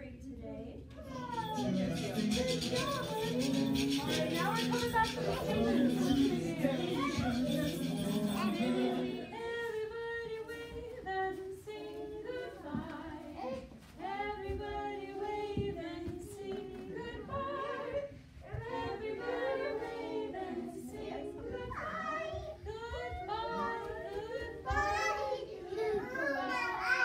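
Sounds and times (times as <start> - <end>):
women and children singing: 0.0 - 27.0.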